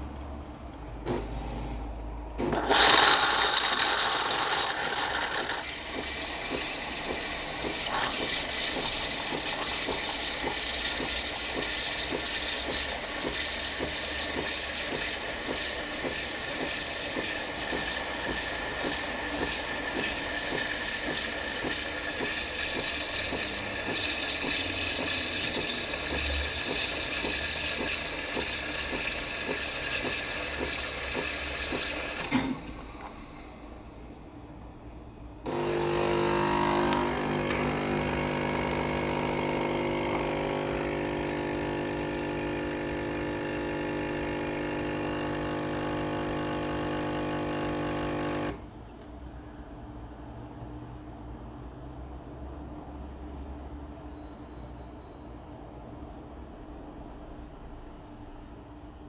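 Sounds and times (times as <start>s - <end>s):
capsule coffee machine brewing: 0.2s - 49.6s.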